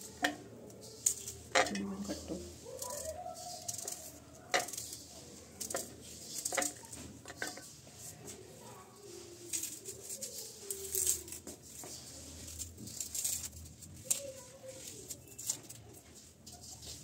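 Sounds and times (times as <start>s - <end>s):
onion skin crackling: 0.0s - 17.0s.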